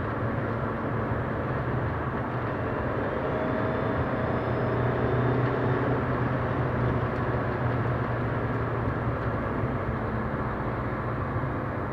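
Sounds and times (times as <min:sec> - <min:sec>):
diesel car engine running: 0:00.0 - 0:11.9.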